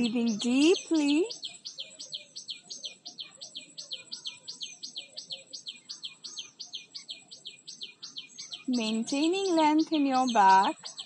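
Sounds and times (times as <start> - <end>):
bird chirping rapidly: 0.0 - 11.0.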